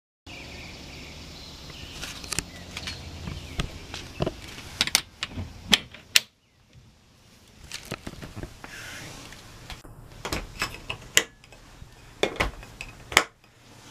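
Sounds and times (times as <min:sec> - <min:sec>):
steady background noise: 0:00.3 - 0:13.9.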